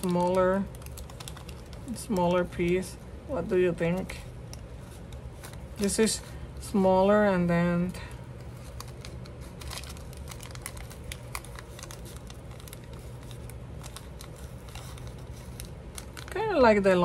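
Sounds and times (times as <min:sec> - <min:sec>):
paper rustling and crinkling: 0:00.0 - 0:03.0, 0:03.9 - 0:07.2, 0:08.0 - 0:16.7.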